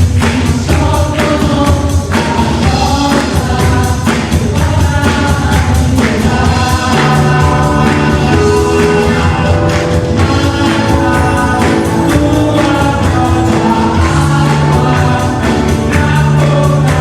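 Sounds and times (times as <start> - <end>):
band with steady beat: 0.0 - 17.0
group singing worship song: 0.0 - 17.0.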